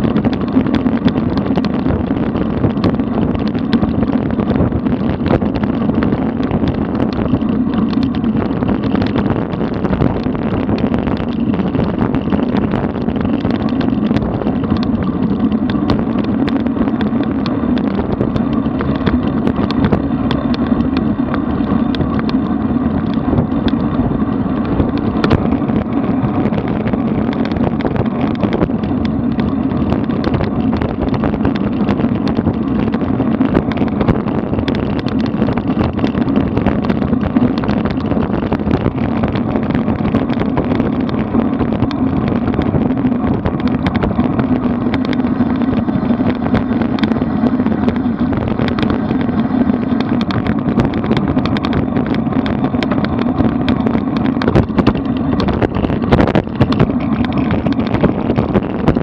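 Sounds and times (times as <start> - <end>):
bike tyres on asphalt: 0.0 - 59.0
small clicks: 0.0 - 59.0
wind rushing over microphone: 0.0 - 59.0.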